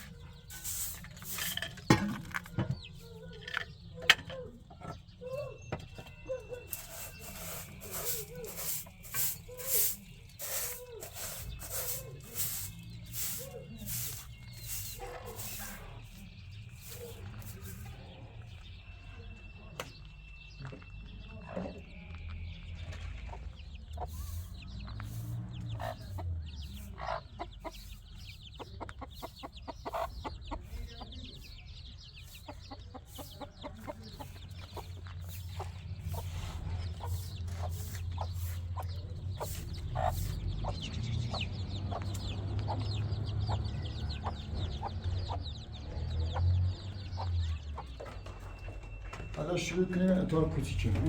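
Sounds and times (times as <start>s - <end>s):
birds chirping and clucking: 0.0s - 51.0s.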